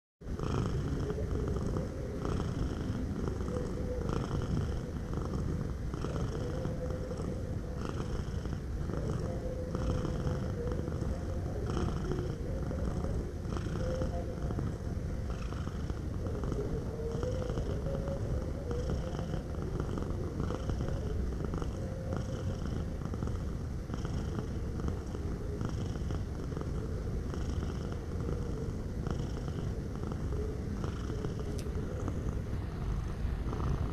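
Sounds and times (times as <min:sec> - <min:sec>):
cat purring: 0:00.3 - 0:33.9.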